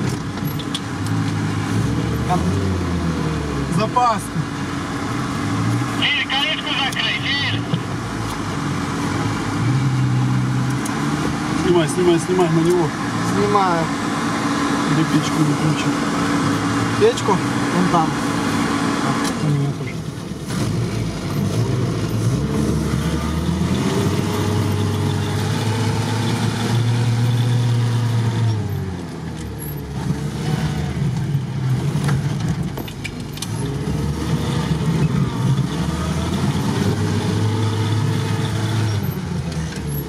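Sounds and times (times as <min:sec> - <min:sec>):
engine revving under load: 0:00.8 - 0:40.0.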